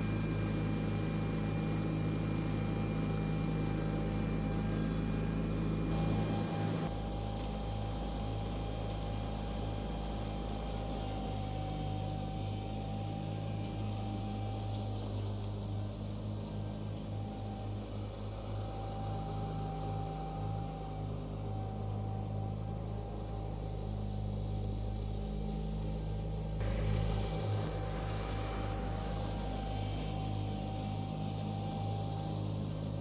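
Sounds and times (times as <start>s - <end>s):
lawn tractor engine hum: 0.0s - 33.0s
thin whine: 0.0s - 33.0s.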